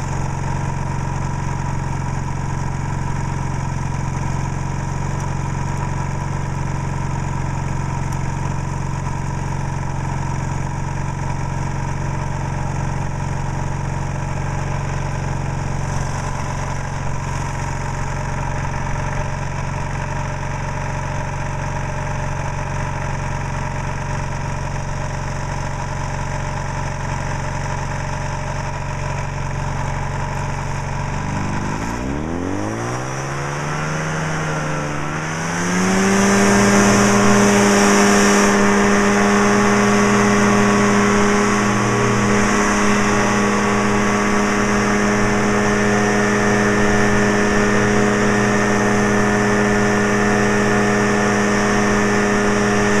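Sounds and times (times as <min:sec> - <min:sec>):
engine and propeller revving: 0:00.0 - 0:53.0.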